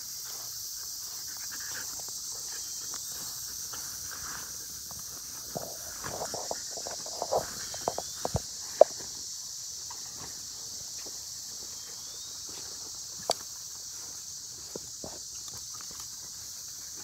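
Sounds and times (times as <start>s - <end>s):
footsteps and paws on grass: 0.0s - 17.0s
insects droning: 0.0s - 17.0s.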